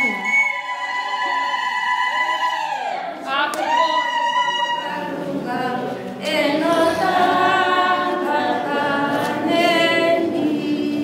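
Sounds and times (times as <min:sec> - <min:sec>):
choir singing unaccompanied: 0:00.5 - 0:11.0.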